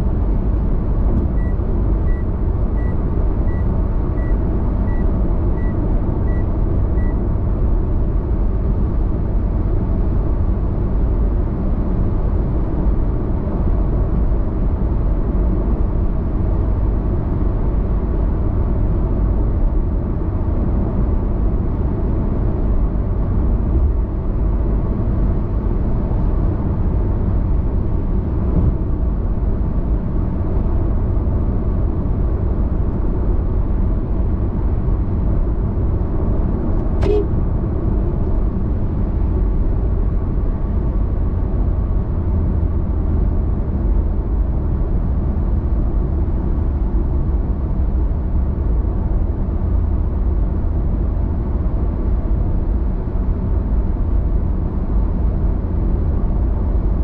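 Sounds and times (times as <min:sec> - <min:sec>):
car road noise at highway speed: 0:00.0 - 0:57.0.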